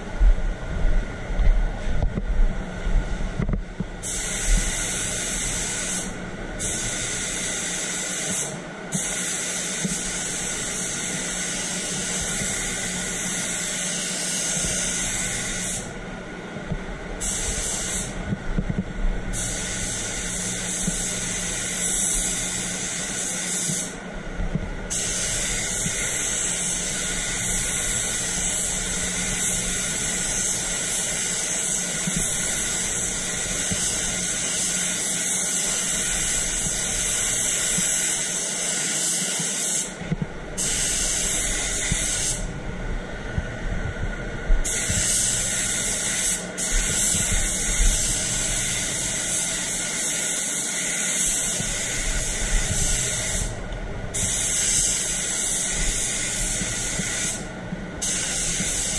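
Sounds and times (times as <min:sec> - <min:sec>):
steady low hum: 0:00.0 - 0:58.9
spray gun hissing: 0:04.0 - 0:16.0, 0:17.2 - 0:18.2, 0:19.3 - 0:24.1, 0:24.9 - 0:40.0, 0:40.6 - 0:42.5, 0:44.6 - 0:58.9.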